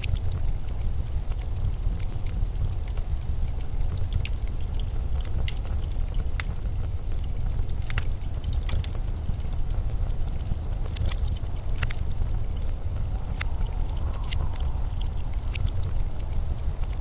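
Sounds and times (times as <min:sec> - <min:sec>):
blizzard wind rumble: 0:00.0 - 0:17.0
small ticks and crackles: 0:00.0 - 0:17.0.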